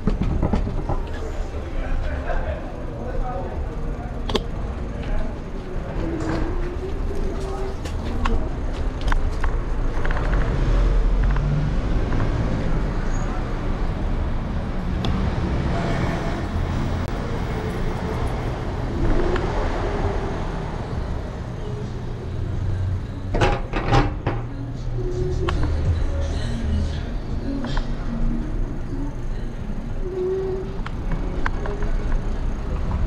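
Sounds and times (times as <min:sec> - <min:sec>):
street traffic rumble: 0:00.0 - 0:33.0.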